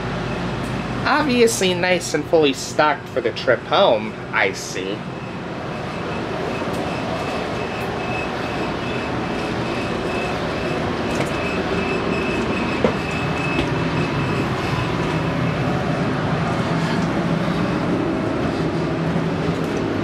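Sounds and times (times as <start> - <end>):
faint high whine: 0.0 - 20.0
rail car ventilation rumble and hum: 0.0 - 20.0.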